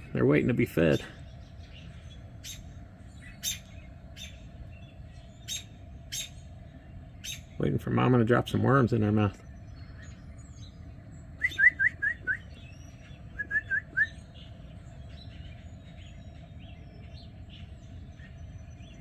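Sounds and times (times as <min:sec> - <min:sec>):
bird chirping: 0:00.0 - 0:19.0
steady low hum: 0:00.0 - 0:19.0.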